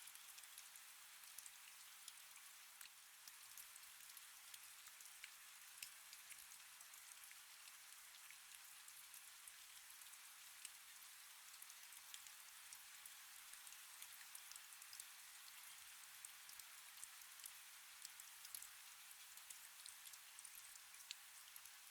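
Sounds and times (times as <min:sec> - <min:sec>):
faint steady rain: 0:00.0 - 0:21.9.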